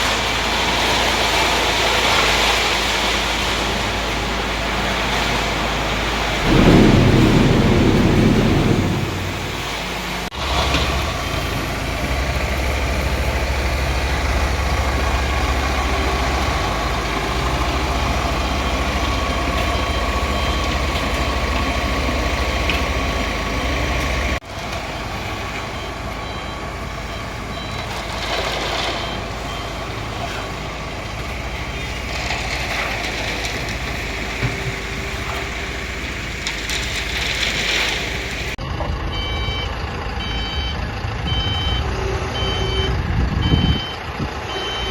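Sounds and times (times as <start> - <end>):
concrete mixer running: 0.0 - 38.6.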